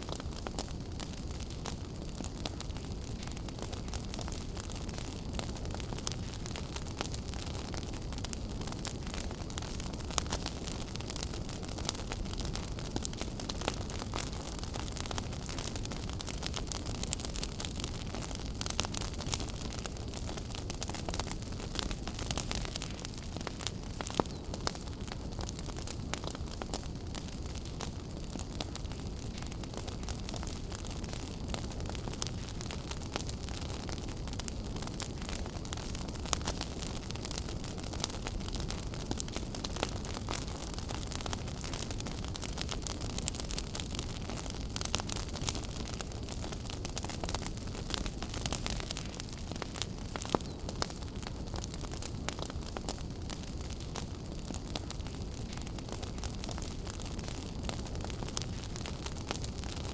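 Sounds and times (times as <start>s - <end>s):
fire crackling and popping: 0.0s - 59.9s
wood fire rumbling and hissing: 0.0s - 59.9s.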